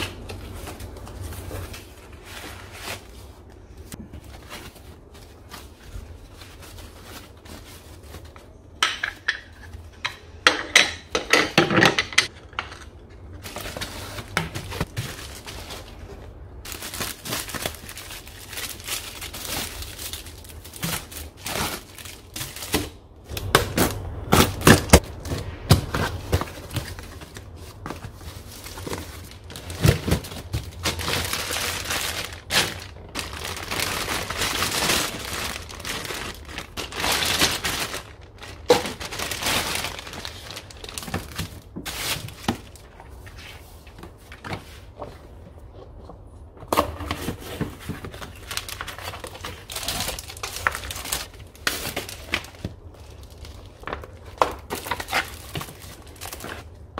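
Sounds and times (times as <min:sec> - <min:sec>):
plastic packaging crinkling: 0:00.0 - 0:08.6, 0:13.2 - 0:44.4, 0:47.3 - 0:56.9.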